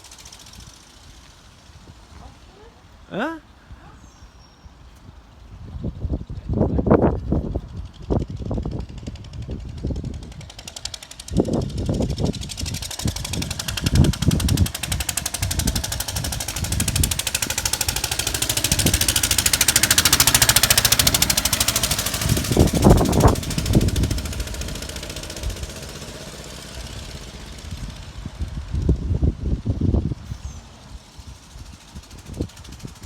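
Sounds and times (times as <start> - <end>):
stationary engine running: 0.0 - 1.9, 8.0 - 33.0.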